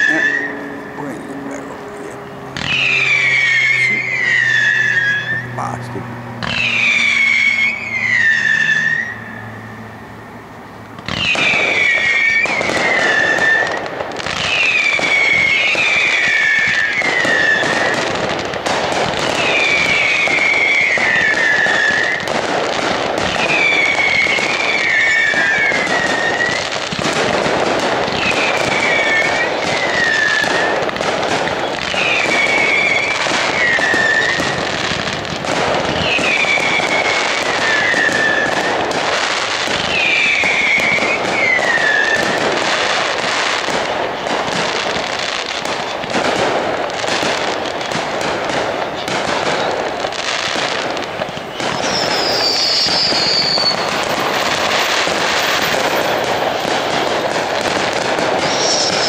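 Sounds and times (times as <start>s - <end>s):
descending firework whistles: 0.0s - 59.0s
fireworks bangs and crackle: 0.0s - 59.0s.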